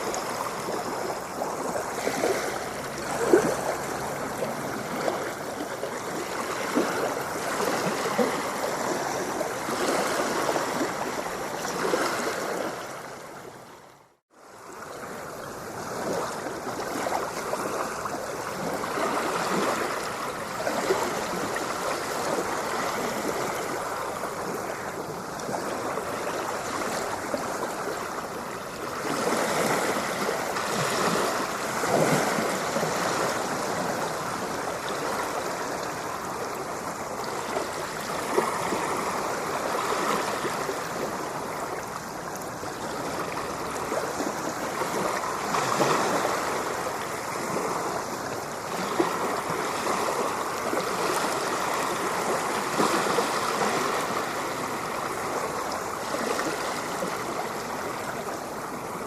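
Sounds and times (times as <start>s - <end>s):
ocean water lapping: 0.0s - 59.0s.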